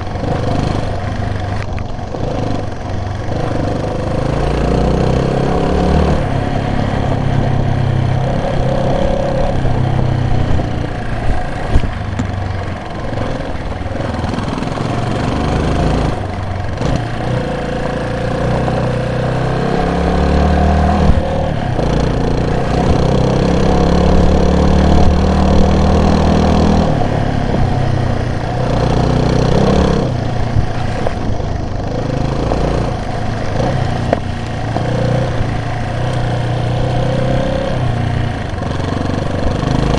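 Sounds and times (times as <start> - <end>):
vehicle engine driving: 0.0 - 39.9.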